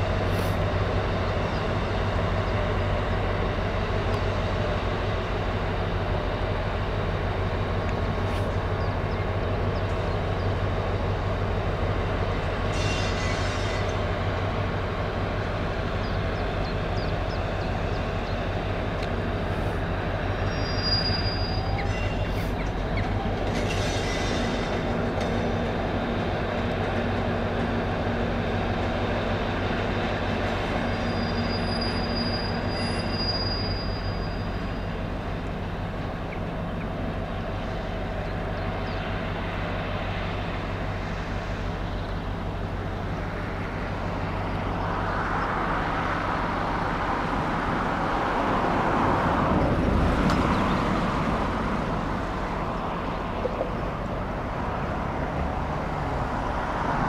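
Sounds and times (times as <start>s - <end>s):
wheel and rail rumble: 0.0s - 57.0s.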